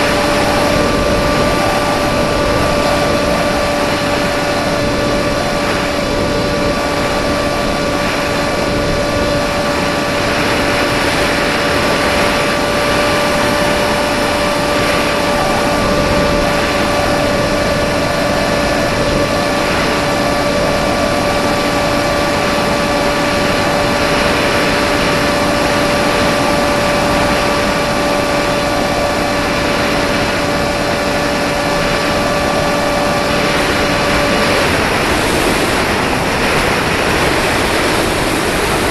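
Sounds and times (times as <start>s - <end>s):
model plane motor whine: 0.0s - 38.9s
rushing wind noise: 0.0s - 38.9s.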